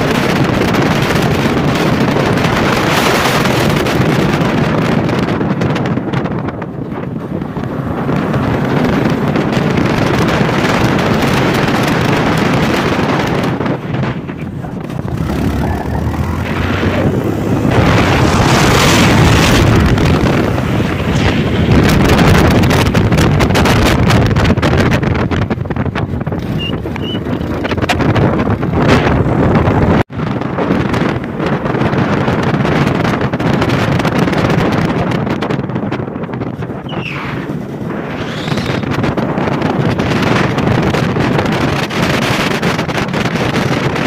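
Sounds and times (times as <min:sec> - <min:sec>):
motorcycle noise: 0:00.0 - 0:44.0
wind buffeting microphone: 0:00.0 - 0:44.0.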